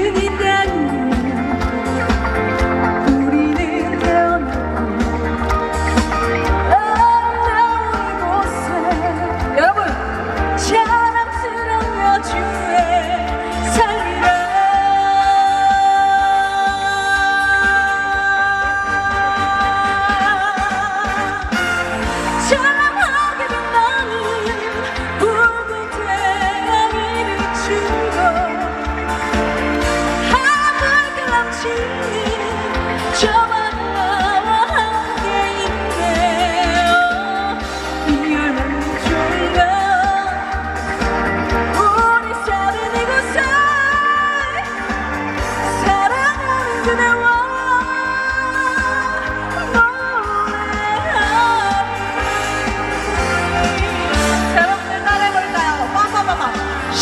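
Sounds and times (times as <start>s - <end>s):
live pop band music: 0.0s - 57.0s.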